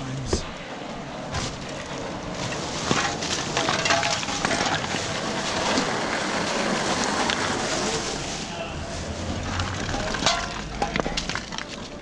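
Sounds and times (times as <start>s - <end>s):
rummaging through rubbish: 1.2s - 12.0s.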